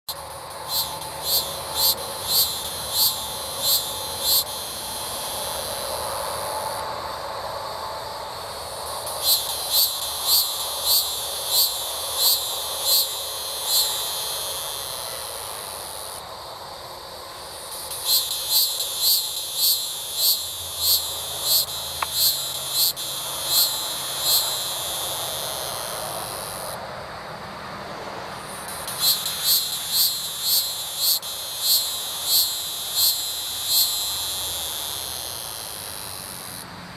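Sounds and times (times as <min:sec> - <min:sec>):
cicada buzzing with loud pulses: 0:00.1 - 0:36.8.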